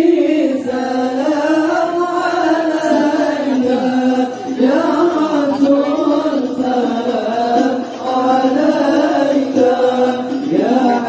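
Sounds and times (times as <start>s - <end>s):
group singing devotional chant: 0.0s - 11.0s.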